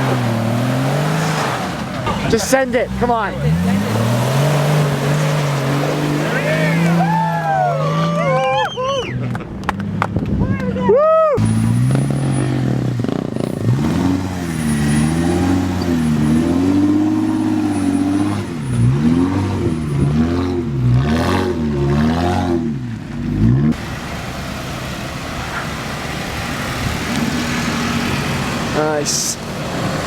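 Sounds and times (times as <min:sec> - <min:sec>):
engine revving: 0:00.0 - 0:10.1, 0:11.4 - 0:30.0
road noise: 0:00.0 - 0:30.0.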